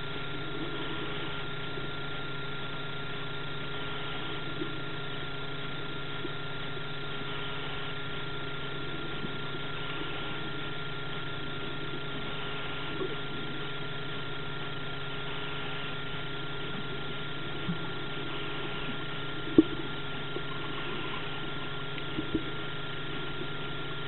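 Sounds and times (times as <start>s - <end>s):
even hiss: 0.0s - 24.0s
high mechanical whine: 0.0s - 24.0s
low drone: 0.0s - 24.0s.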